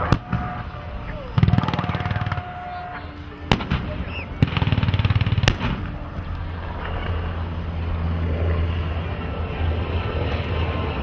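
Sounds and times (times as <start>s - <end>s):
helicopter rotor beating: 0.0s - 11.0s
steady low drone: 0.0s - 11.0s.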